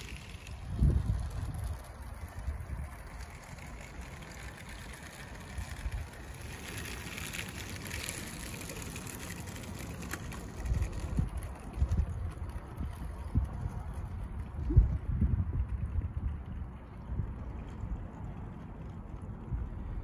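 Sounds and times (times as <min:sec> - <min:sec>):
wind gusts rumbling on microphone: 0:00.0 - 0:20.0.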